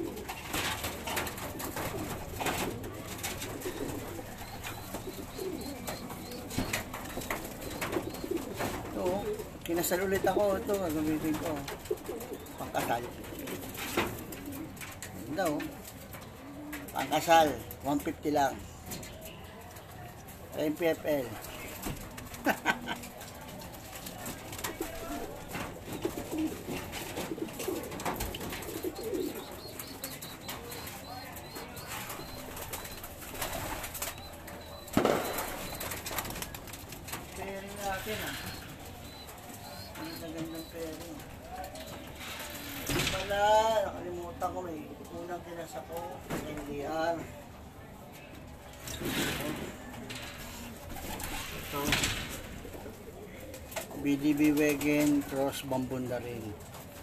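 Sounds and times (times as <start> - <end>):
pigeons cooing: 0.0 - 19.2, 19.8 - 45.6, 48.8 - 57.0.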